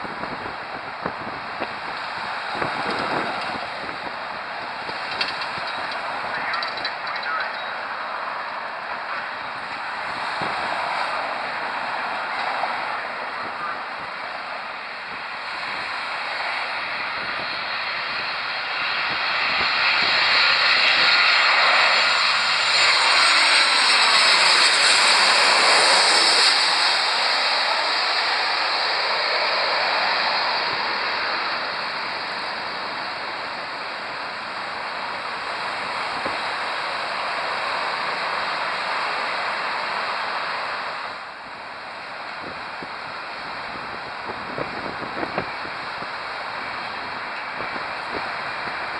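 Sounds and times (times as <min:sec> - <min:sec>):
jet airliner passing overhead: 0:00.0 - 0:48.9
road traffic: 0:00.0 - 0:48.9.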